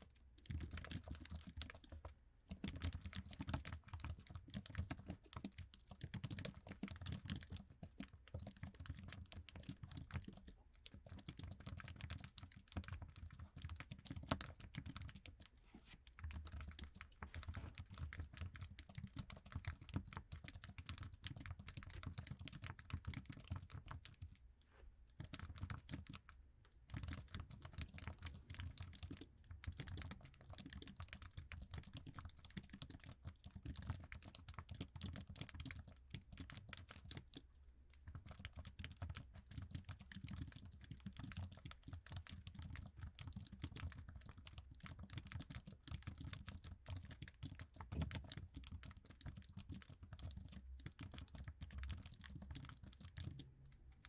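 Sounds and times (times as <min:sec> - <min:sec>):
fast typing on a keyboard: 0:00.0 - 0:15.5, 0:16.1 - 0:24.4, 0:25.1 - 0:54.0.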